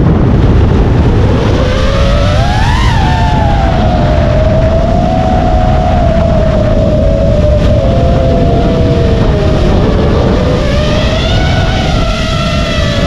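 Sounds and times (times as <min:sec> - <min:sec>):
wind rumble on microphone: 0:00.0 - 0:13.0
quadcopter motors whining: 0:00.1 - 0:13.0.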